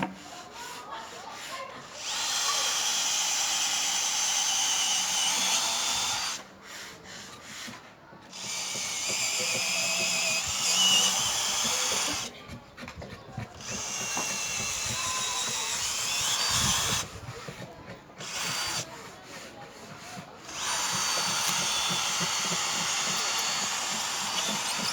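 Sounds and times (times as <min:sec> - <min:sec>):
power tool whining: 0:00.6 - 0:06.9, 0:07.5 - 0:24.9.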